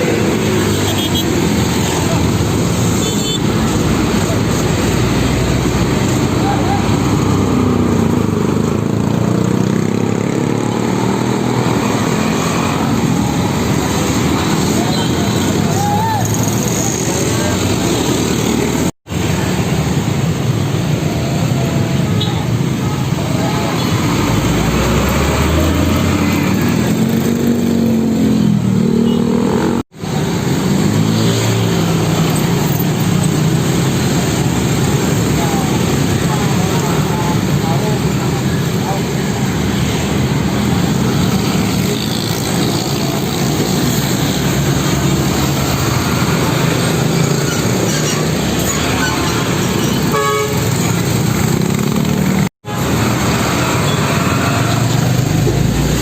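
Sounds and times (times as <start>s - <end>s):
vehicles passing: 0.0s - 56.0s.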